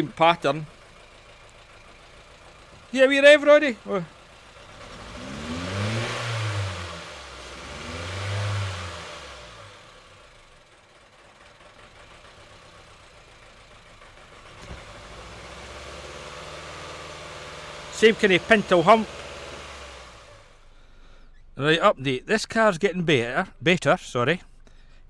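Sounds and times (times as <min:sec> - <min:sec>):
car engine revving and idling: 0:00.0 - 0:21.2.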